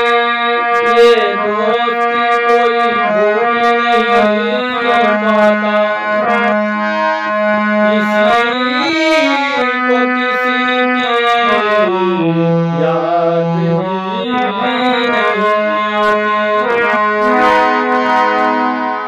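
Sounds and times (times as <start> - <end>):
harmonium playing slow melody: 0.0 - 19.0.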